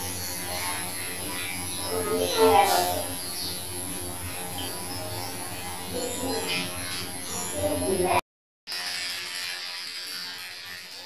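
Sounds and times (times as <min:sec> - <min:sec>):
toy electric motor buzzing: 0:00.0 - 0:11.0.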